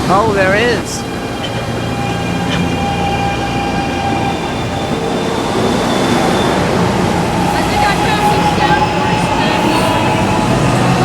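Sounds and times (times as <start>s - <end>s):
train rail rumble and hiss: 0.0s - 11.0s.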